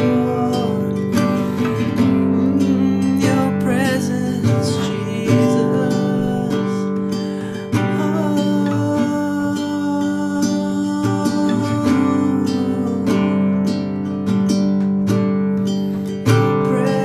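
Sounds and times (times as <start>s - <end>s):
man singing: 0.0s - 14.4s, 16.0s - 17.0s
classical guitar strumming: 0.0s - 17.0s.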